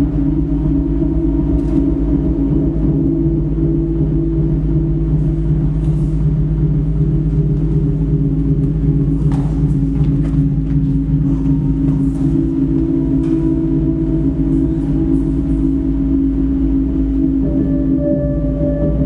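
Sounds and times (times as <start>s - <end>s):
deep rumble: 0.0s - 19.0s
loud low drone music: 0.0s - 19.0s.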